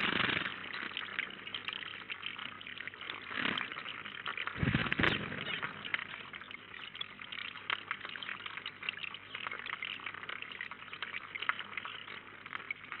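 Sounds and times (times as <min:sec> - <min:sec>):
water trickling over rocks: 0:00.0 - 0:13.0.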